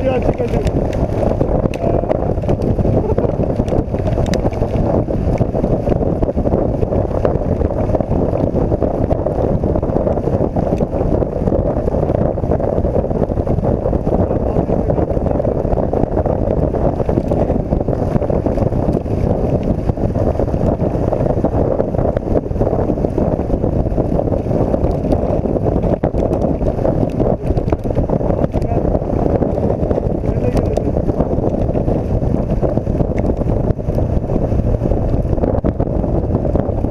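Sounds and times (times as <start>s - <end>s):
wind rushing on microphone: 0.0s - 36.9s.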